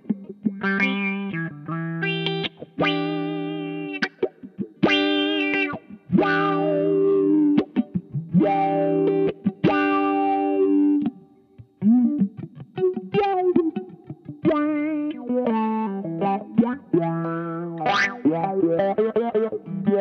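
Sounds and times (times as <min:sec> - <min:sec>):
bent guitar notes: 0:00.0 - 0:20.0
electric guitar chord strumming: 0:00.0 - 0:20.0.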